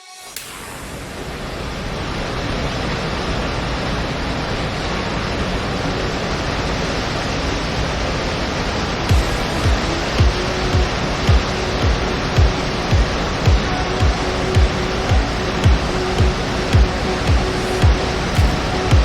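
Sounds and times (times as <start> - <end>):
rushing water: 0.9 - 19.0.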